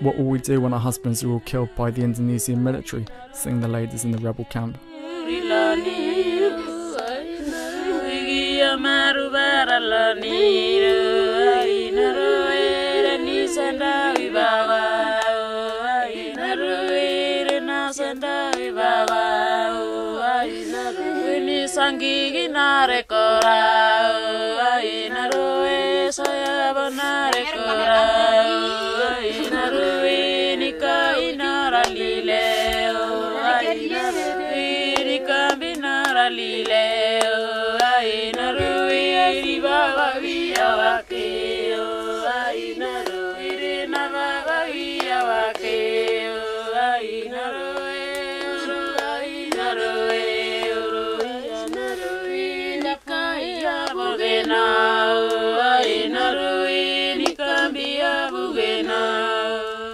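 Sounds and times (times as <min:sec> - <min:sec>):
women singing a lament: 0:00.0 - 0:59.9.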